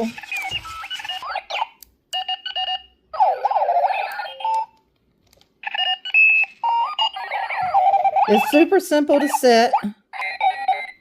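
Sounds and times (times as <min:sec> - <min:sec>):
alarm clock beeping and chirping: 0:00.0 - 0:04.8, 0:05.6 - 0:11.0.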